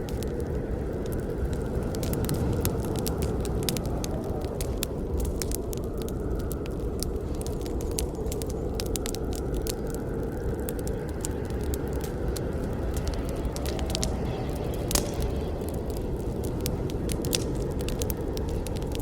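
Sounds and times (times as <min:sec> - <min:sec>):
burning wood crackling and popping: 0:00.0 - 0:19.0
campfire flames rushing: 0:00.0 - 0:19.0.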